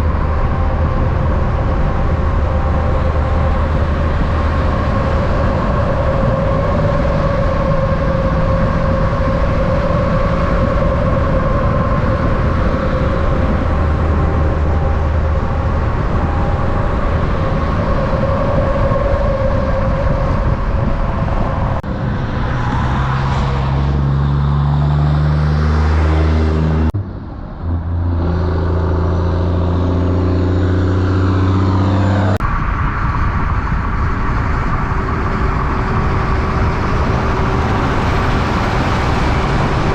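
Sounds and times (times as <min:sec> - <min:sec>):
diesel truck engine: 0:00.0 - 0:39.9
highway traffic with tyre whine: 0:00.0 - 0:39.9.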